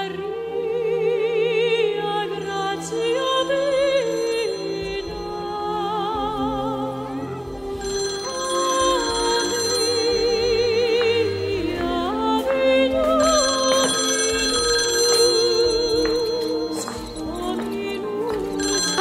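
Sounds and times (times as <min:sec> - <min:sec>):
wavering vibrato melody: 0:02.3 - 0:19.0
held high ringing tones: 0:02.4 - 0:19.0.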